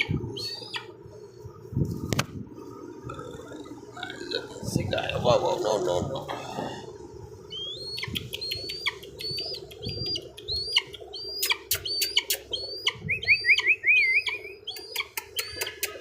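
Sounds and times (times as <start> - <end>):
eagle chick peeping: 0.0 - 4.2, 6.2 - 16.0.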